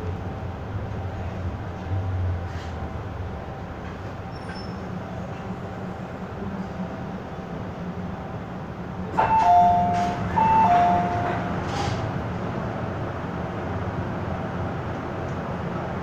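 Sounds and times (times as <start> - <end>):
train running hum: 0.0 - 16.0.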